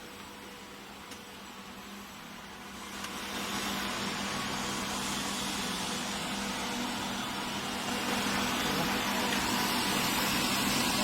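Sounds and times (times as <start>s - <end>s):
welding machine hum and hiss: 0.0s - 11.0s.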